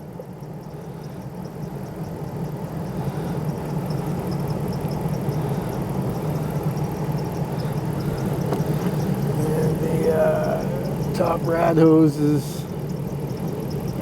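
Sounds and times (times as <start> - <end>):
pickup engine idling: 0.0 - 14.0.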